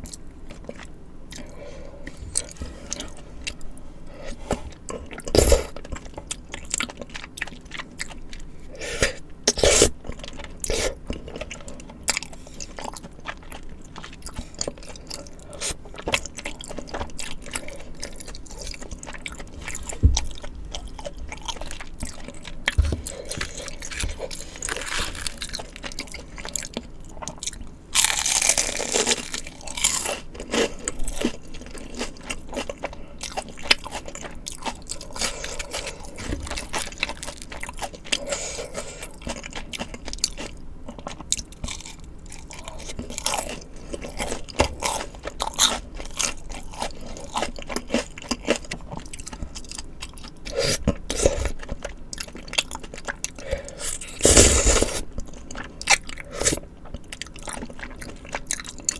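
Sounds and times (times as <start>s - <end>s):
crunchy chewing of fried food: 0.0s - 58.9s.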